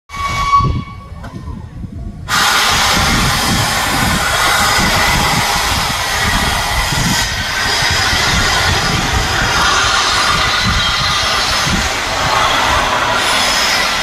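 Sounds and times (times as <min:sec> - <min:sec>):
low rumble: 0:01.0 - 0:14.0
steam locomotive hissing steam: 0:02.2 - 0:14.0.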